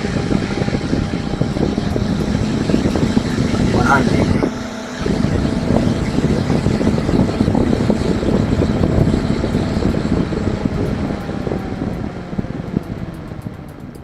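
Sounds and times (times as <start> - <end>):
computer case fan running: 0.0 - 14.0.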